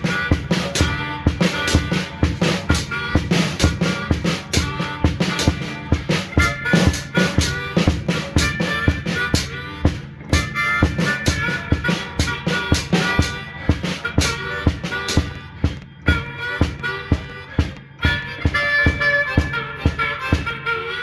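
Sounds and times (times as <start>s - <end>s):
blues harmonica: 0.0s - 21.0s
drum kit beat: 0.0s - 21.0s.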